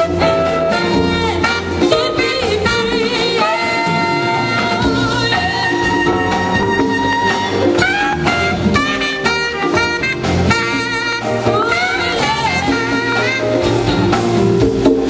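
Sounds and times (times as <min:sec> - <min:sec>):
horn playing held notes: 0:00.0 - 0:14.3
drum kit and percussion: 0:00.0 - 0:15.0.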